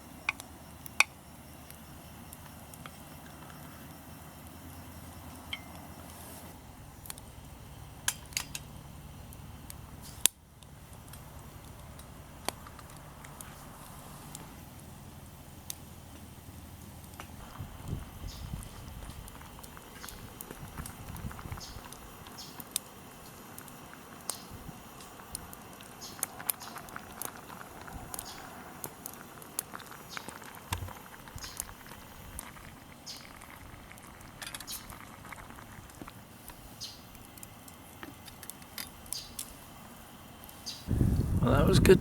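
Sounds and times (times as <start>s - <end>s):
faint steady hiss: 0.0s - 42.0s
wood fire crackling and popping: 0.0s - 42.0s.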